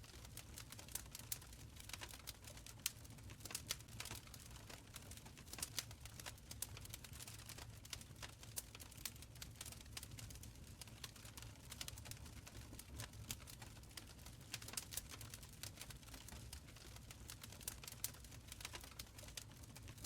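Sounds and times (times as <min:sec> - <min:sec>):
open fire crackling: 0:00.0 - 0:20.0.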